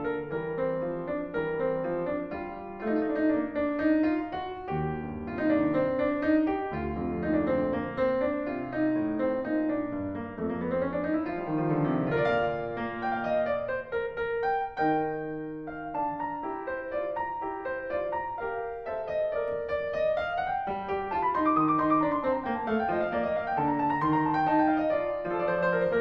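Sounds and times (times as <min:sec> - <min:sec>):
classical piano music: 0:00.0 - 0:26.0.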